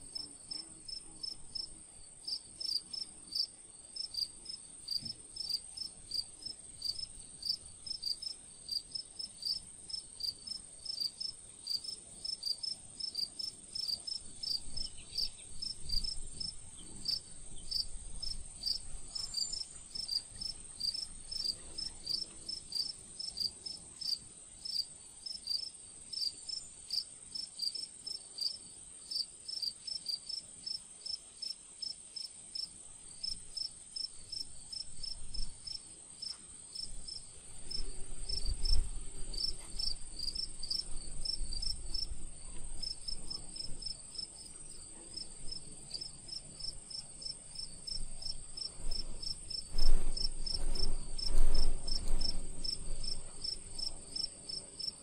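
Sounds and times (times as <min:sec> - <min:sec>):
insects chirping: 0:06.8 - 0:31.2, 0:32.2 - 0:55.0.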